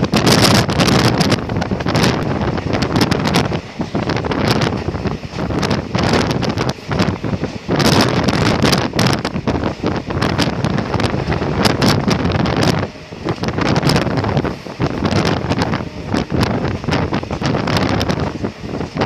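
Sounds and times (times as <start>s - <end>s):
train running noise: 0.0s - 19.0s
wind buffeting microphone: 0.0s - 19.0s.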